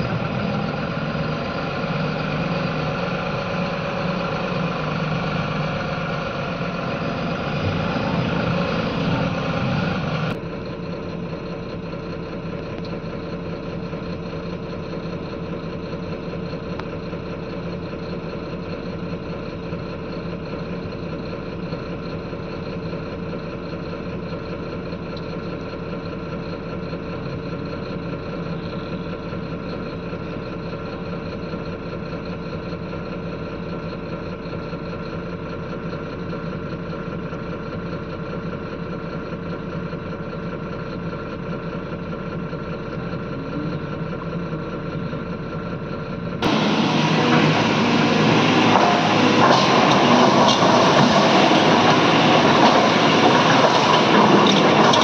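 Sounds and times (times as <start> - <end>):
diesel engine running: 0.0 - 55.0
harsh rumble and clatter: 0.0 - 55.0.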